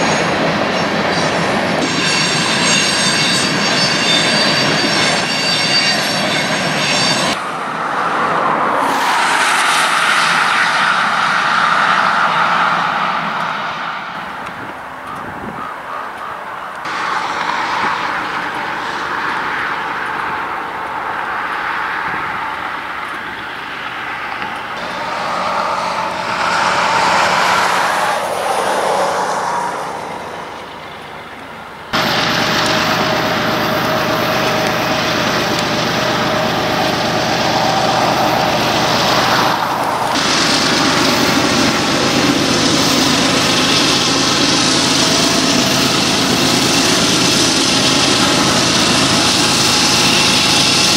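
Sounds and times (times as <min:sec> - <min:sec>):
diesel locomotive engines running: 0:00.0 - 0:50.9
train passing close by: 0:00.0 - 0:50.9
train wheels on rails: 0:00.0 - 0:50.9.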